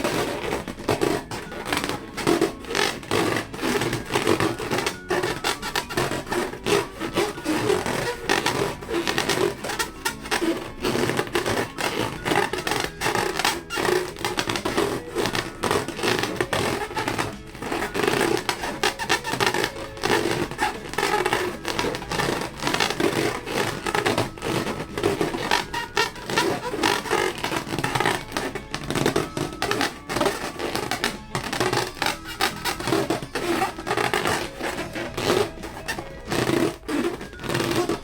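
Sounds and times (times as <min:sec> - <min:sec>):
background music: 0:00.0 - 0:38.0.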